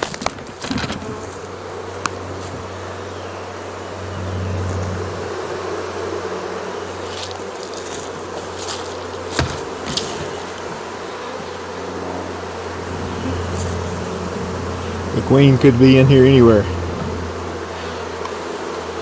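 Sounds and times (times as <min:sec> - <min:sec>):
bee swarm buzzing: 0:00.0 - 0:19.0.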